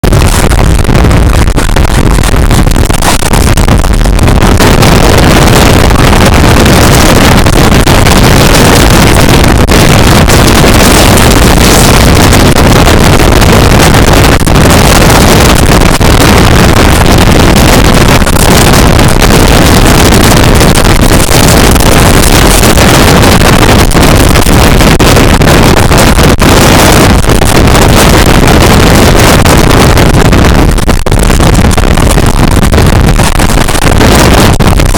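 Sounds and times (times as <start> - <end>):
wind noise on microphone: 0.0 - 34.9.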